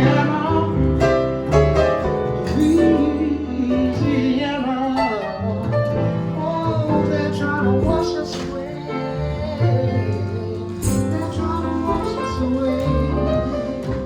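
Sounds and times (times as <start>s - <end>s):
guitar: 0.0s - 14.0s.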